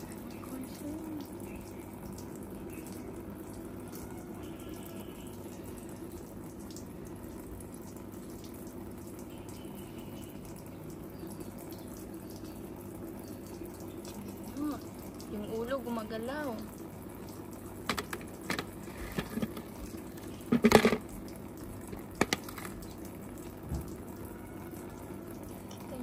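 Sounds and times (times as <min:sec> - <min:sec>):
low even hum: 0:00.0 - 0:26.0
water running: 0:00.0 - 0:26.0.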